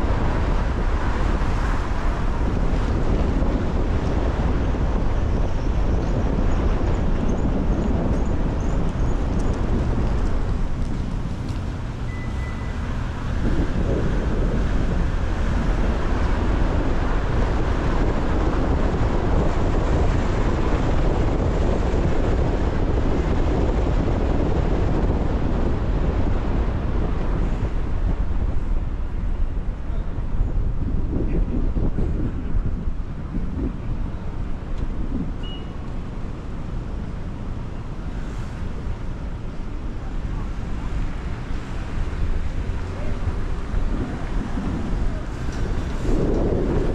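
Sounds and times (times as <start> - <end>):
city street traffic: 0.0 - 46.9
wind buffeting microphone: 0.0 - 46.9.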